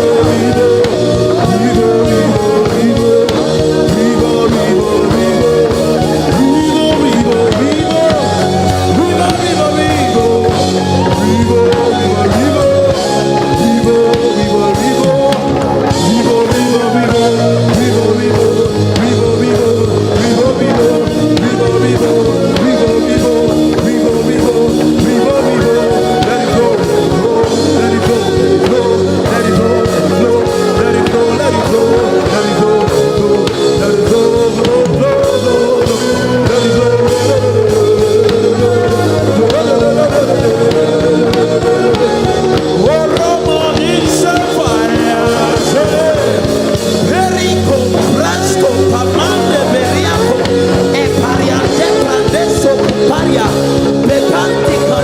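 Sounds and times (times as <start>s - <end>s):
live worship band music: 0.0s - 55.0s
people singing: 0.0s - 55.0s.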